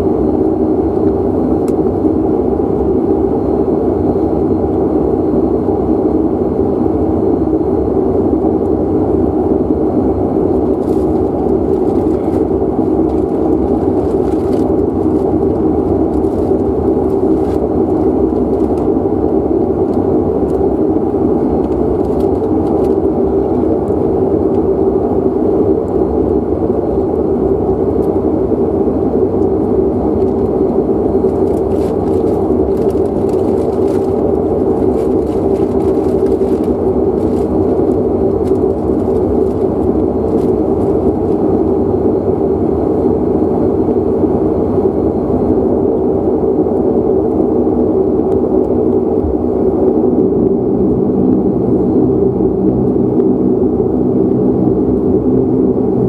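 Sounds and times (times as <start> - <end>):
turboprop engine drone: 0.0 - 56.0.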